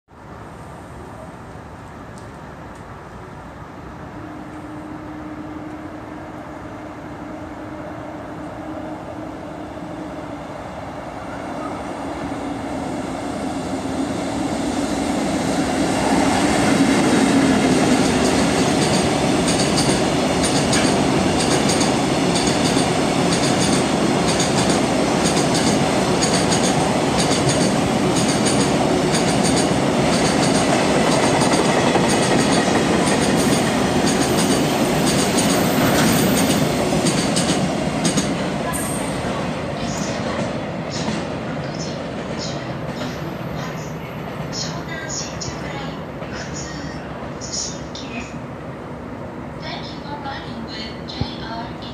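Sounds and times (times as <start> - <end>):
train rumbling past: 0.1 - 51.9.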